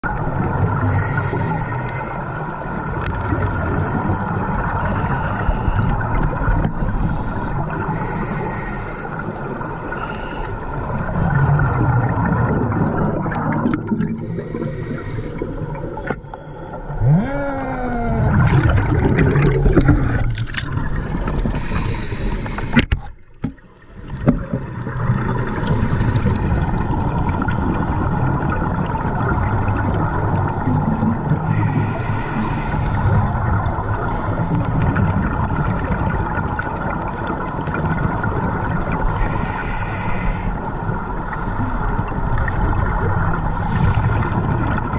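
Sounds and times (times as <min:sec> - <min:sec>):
muffled underwater drone: 0:00.0 - 0:44.9
regulator bubbling and gurgling: 0:00.0 - 0:44.9.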